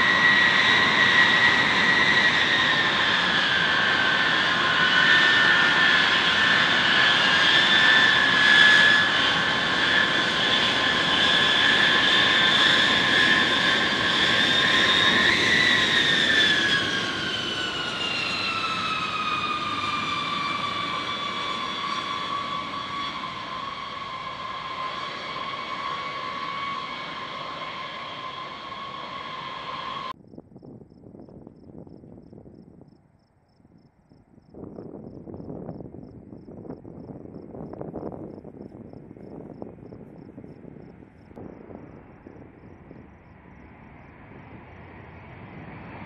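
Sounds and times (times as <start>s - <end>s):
jet engines high whine: 0.0s - 32.9s, 33.8s - 46.0s.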